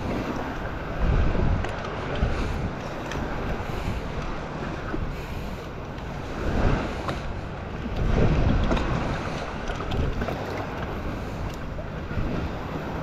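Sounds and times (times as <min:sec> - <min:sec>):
shallow water lapping: 0:00.0 - 0:13.0
wind buffeting microphone: 0:00.0 - 0:13.0.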